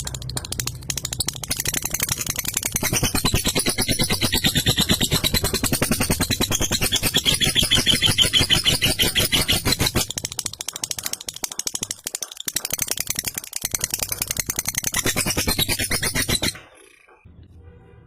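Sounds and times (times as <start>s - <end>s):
lovebird chattering: 0.0s - 17.2s.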